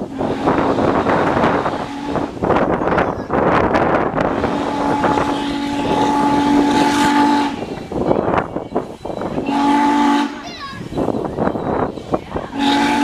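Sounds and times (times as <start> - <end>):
steam locomotive whistle: 0.0 - 2.5, 4.3 - 13.0
wind buffeting microphone: 0.0 - 13.0.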